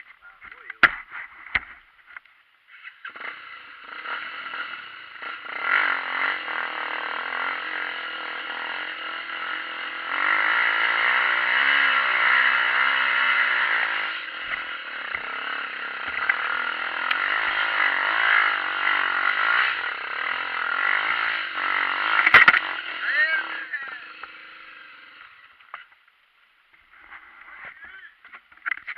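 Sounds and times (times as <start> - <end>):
motorcycle engine revving: 2.7 - 26.0, 26.7 - 28.9.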